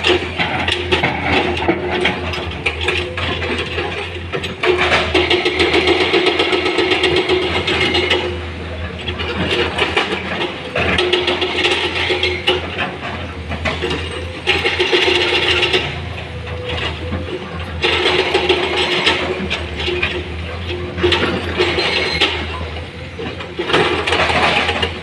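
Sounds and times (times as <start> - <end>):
heavy diesel machinery rattling: 0.0 - 25.0.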